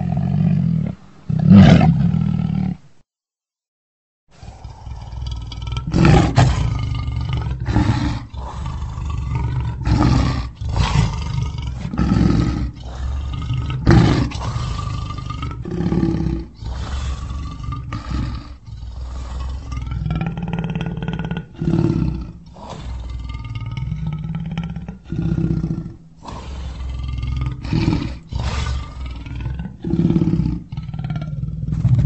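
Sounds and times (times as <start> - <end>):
lion roaring: 0.0 - 2.8, 4.4 - 32.0.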